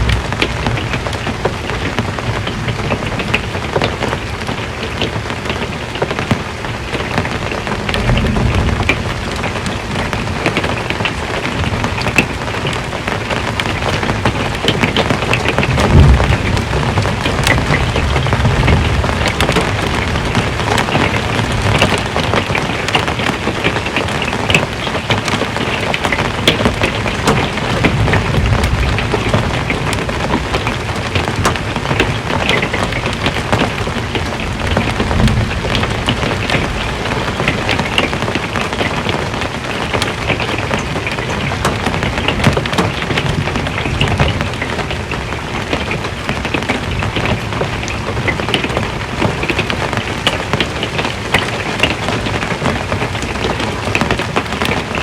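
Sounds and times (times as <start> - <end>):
rain on a metal roof: 0.0 - 55.0
thunder rumbles: 0.0 - 55.0.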